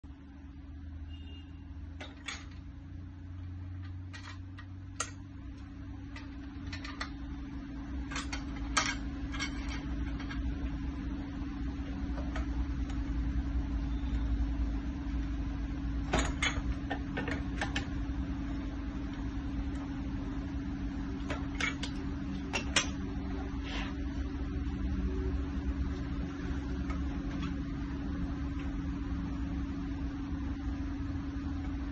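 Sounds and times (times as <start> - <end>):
steady electrical hum: 0.0 - 31.9.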